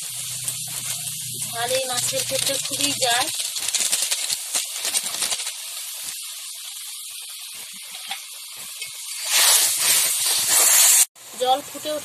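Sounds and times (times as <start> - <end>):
water hissing as it heats: 0.0 - 12.0.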